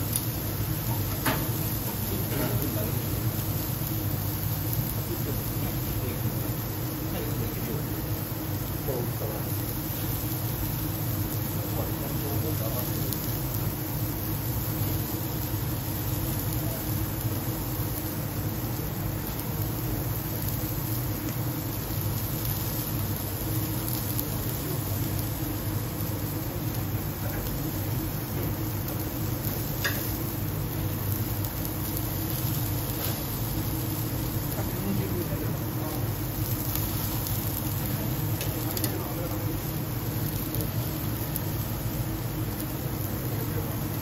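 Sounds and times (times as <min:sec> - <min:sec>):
gas grill hum and hiss: 0:00.0 - 0:44.0
kitchen ventilation: 0:00.0 - 0:44.0
steaks sizzling: 0:00.0 - 0:44.0.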